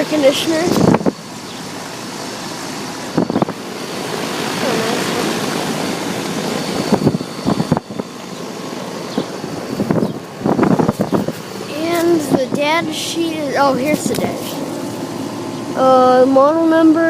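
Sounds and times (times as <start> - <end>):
air conditioner fan rushing: 0.0 - 17.0.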